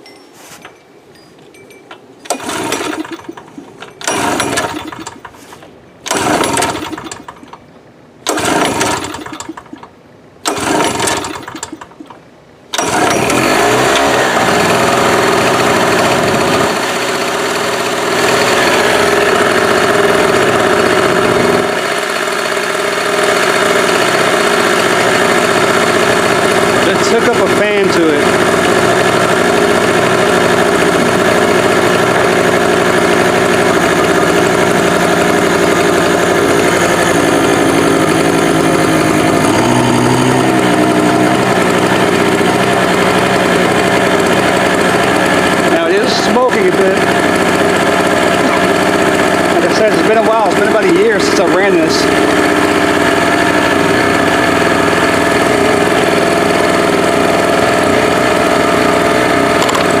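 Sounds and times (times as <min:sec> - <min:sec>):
portable generator running: 0:01.9 - 1:00.0.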